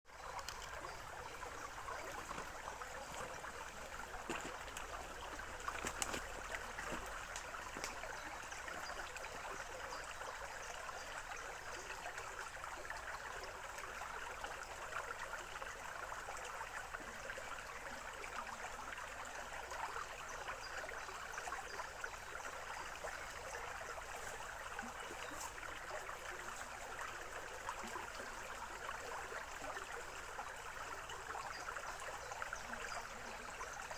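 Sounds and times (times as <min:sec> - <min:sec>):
stream babbling: 0:00.1 - 0:33.9.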